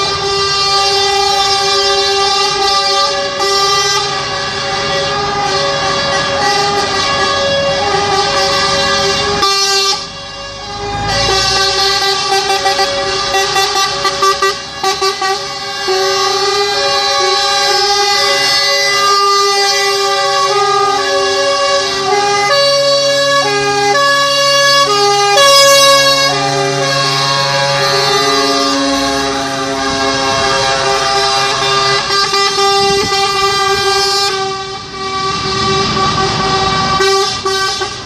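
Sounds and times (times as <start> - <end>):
low horn tone: 0.0 - 38.0
truck air horns: 0.0 - 38.0.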